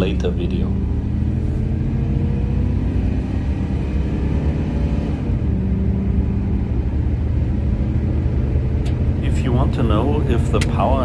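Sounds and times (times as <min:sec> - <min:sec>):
car exhaust rumble accelerating: 0:00.0 - 0:11.0.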